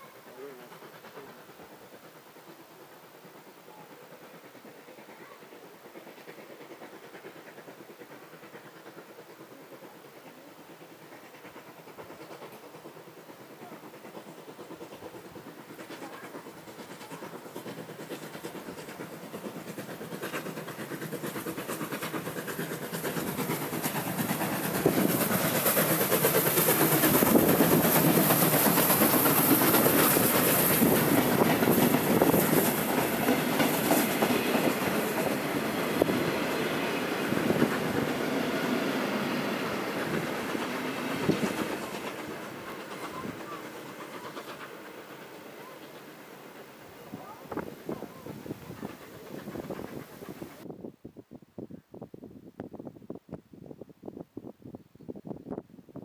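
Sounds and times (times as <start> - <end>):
steam locomotive passing: 0.0 - 50.7.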